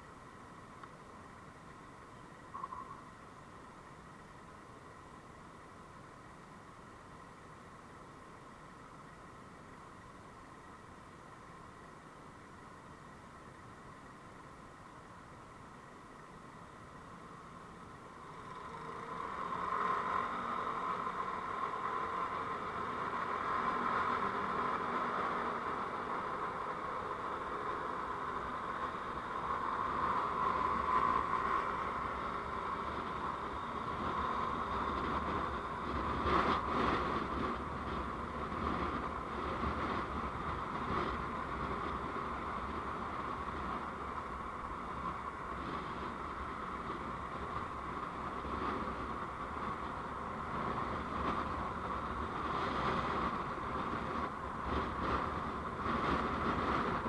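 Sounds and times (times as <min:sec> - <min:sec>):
vehicle road noise: 0:00.0 - 0:57.0.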